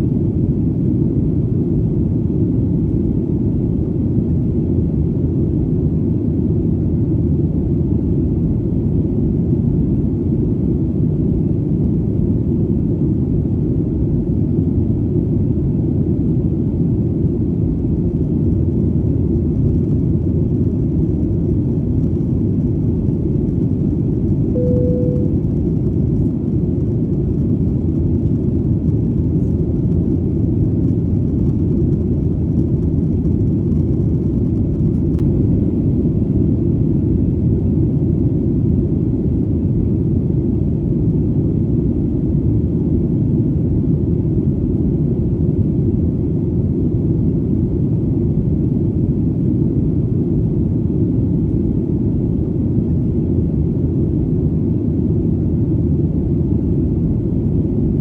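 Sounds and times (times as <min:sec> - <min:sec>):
airplane drone in flight: 0:00.0 - 0:58.0.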